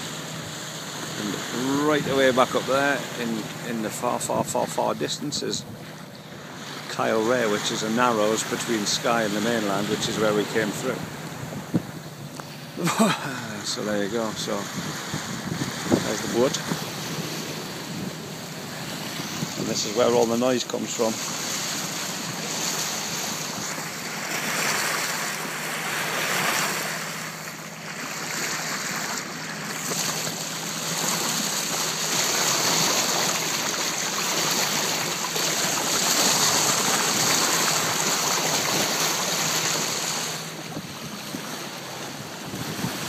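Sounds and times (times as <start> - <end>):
water rushing along boat hull: 0.0 - 43.0.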